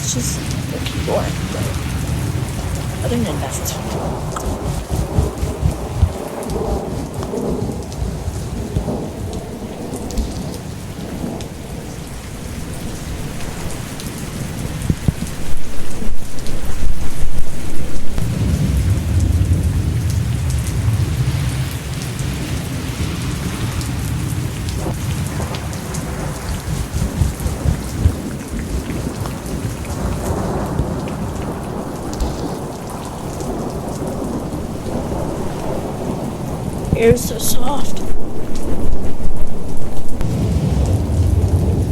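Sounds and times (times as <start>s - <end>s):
steady rain falling: 0.0s - 41.9s
low rumble of thunder: 3.8s - 41.9s.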